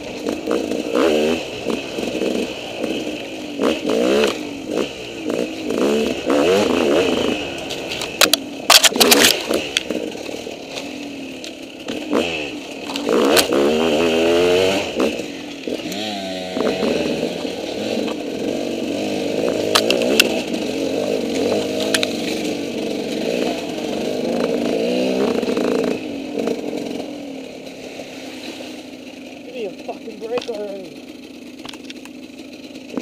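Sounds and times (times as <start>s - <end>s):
two-stroke engine revving: 0.0s - 33.0s.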